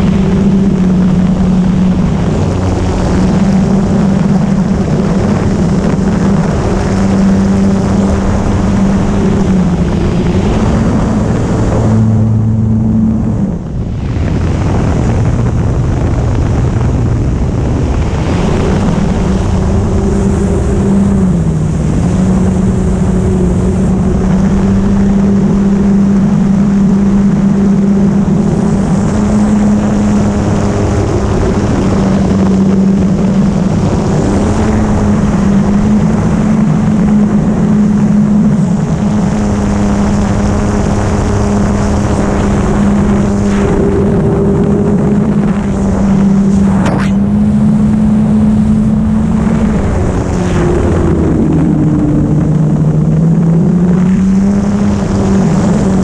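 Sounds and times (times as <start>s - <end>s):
wind rushing on microphone: 0.0s - 56.0s.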